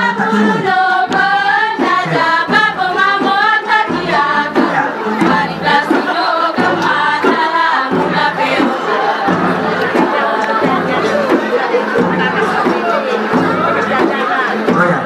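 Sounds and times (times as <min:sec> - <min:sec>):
group singing: 0:00.0 - 0:15.0
percussive strikes: 0:00.0 - 0:15.0.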